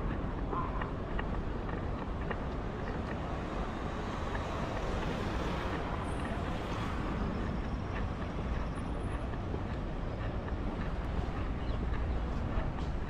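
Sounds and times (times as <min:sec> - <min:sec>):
low rumble of traffic: 0:00.0 - 0:13.0
wind: 0:00.0 - 0:13.0.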